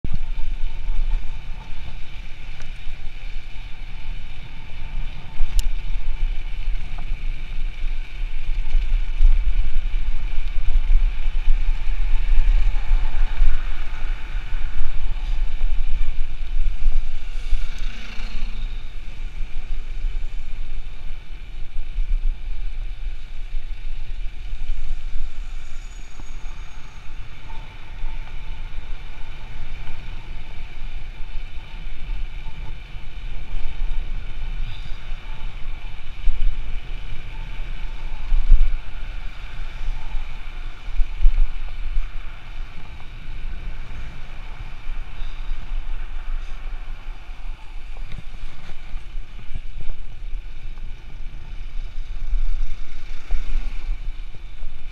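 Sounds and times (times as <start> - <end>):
car traffic: 0.0 - 54.9
wind buffeting microphone: 0.0 - 54.9.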